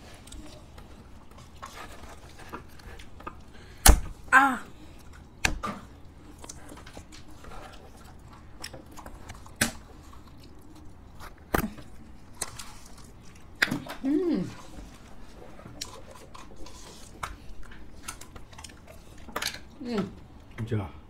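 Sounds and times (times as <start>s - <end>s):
wooden spoons in ice cream tubs: 0.0s - 21.0s.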